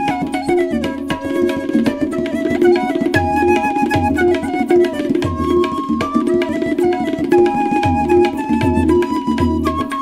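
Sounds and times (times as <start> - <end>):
tabla playing a dense rhythm: 0.0 - 10.0
wooden flute melody: 0.0 - 10.0.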